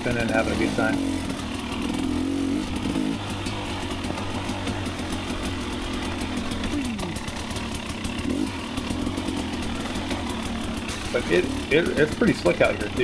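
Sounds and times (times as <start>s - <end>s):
two-stroke dirt bike engine: 0.0s - 13.0s.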